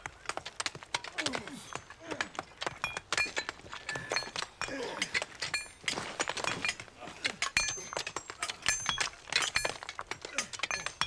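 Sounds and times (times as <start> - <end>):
metallic clinking and jingling: 0.1 - 11.0.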